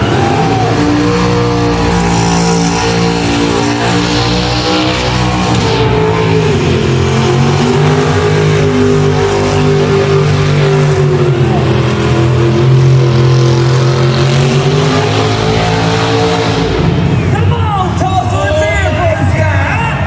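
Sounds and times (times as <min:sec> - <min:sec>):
car engine at high revs: 0:00.0 - 0:17.4.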